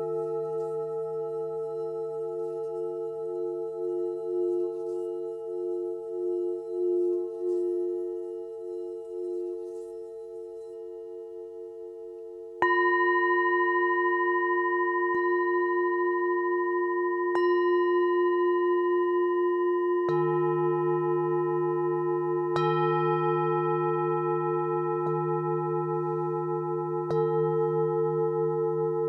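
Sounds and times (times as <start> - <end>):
singing bowls ringing: 0.0 - 29.0.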